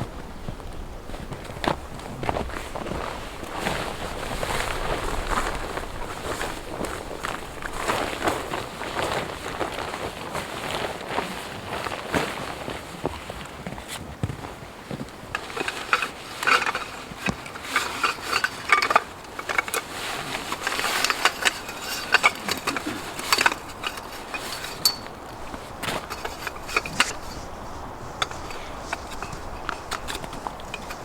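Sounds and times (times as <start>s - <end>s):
tent gear being handled: 1.0s - 31.0s.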